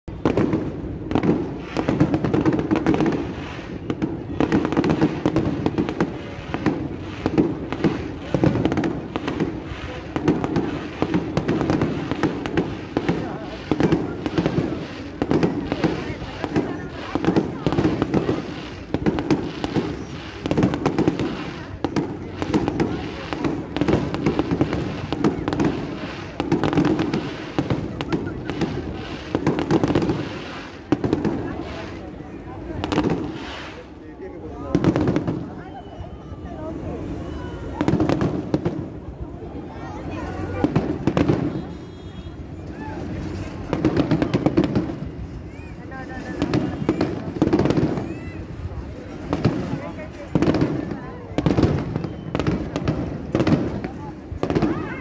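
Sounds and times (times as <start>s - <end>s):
fireworks bangs and crackles: 0.1s - 55.0s.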